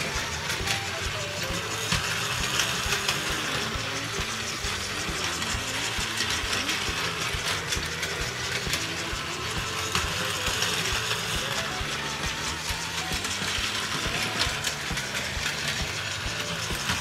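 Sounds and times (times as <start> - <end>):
toy train motor whirring: 0.0 - 17.0
wheels clicking over track joints: 0.0 - 17.0.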